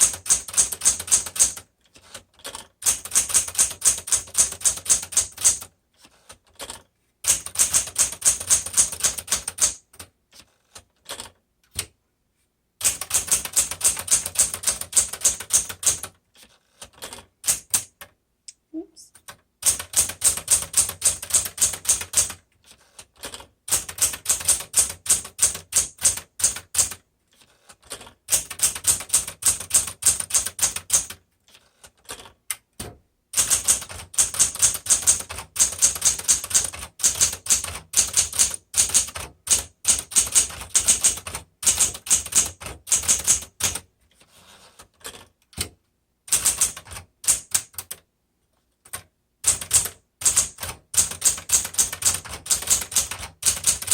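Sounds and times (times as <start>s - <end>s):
manual typewriter typing: 0.0s - 11.9s, 12.8s - 18.1s, 19.2s - 27.0s, 27.7s - 31.2s, 31.8s - 43.8s, 46.3s - 48.0s, 48.9s - 53.9s.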